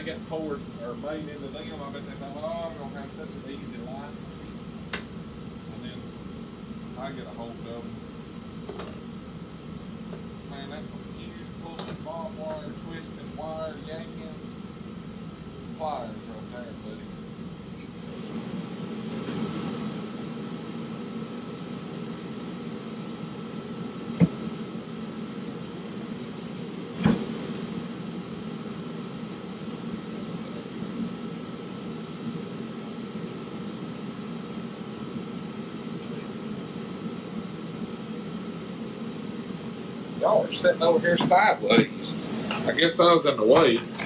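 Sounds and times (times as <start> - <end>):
machine hum: 0.0 - 44.0.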